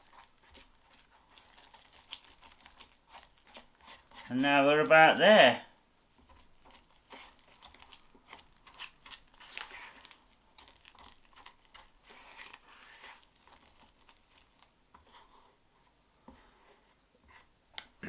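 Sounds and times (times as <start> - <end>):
spatula scraping plastic bowl: 0.0 - 5.5, 6.2 - 15.6.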